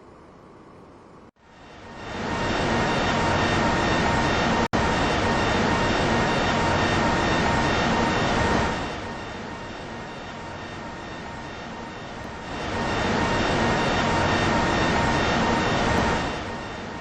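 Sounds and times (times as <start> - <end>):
aircraft engines roaring: 0.1 - 17.0.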